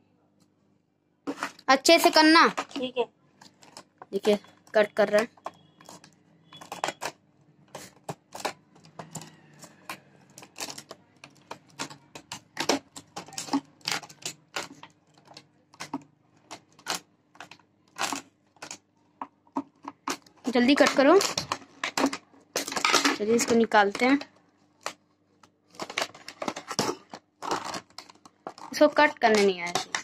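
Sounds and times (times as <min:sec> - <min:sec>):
scissors snipping plastic: 0:01.3 - 0:25.0, 0:25.7 - 0:30.0.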